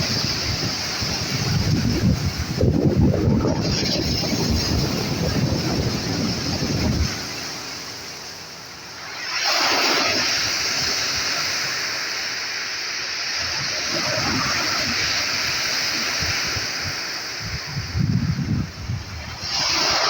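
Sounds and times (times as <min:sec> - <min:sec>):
wave breaking: 0:00.0 - 0:12.6, 0:13.2 - 0:20.0
rush of surf: 0:00.0 - 0:20.0.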